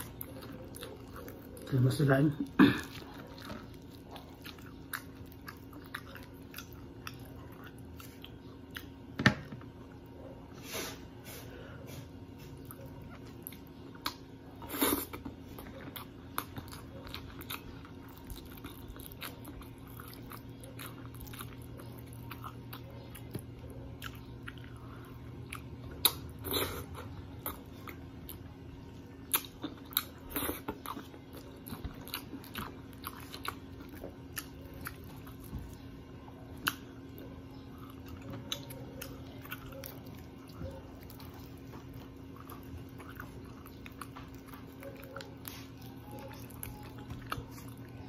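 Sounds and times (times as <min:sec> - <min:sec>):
person chewing food: 0:00.0 - 0:48.0
steady low hum: 0:00.0 - 0:48.0.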